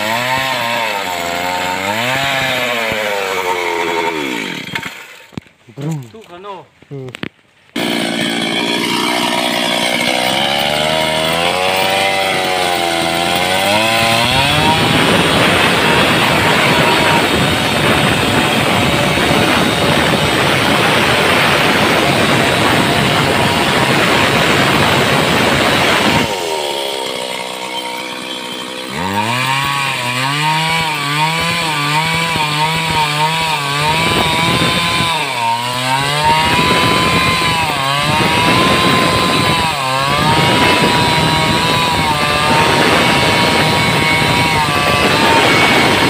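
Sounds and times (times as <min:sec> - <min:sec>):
chainsaw cutting a log: 0:00.0 - 0:06.4, 0:07.7 - 0:46.0.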